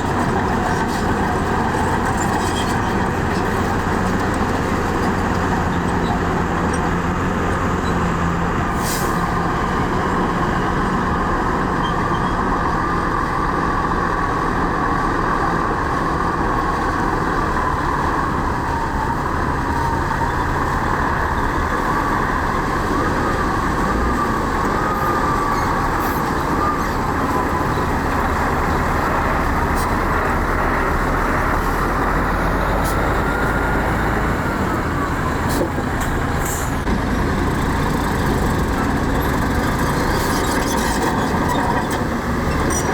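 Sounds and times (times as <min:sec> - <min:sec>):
diesel machinery engine rumble: 0:00.0 - 0:42.9.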